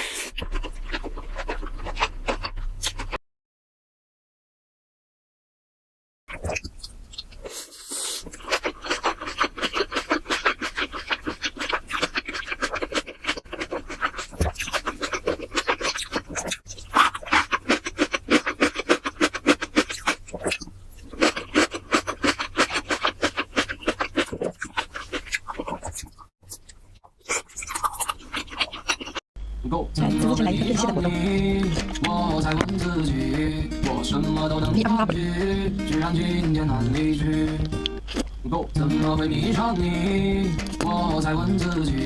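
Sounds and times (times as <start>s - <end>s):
rapid chewing: 0.0s - 3.2s, 6.3s - 29.2s, 30.4s - 42.0s
wet mouth noises: 0.0s - 3.2s, 6.3s - 29.2s, 30.4s - 42.0s.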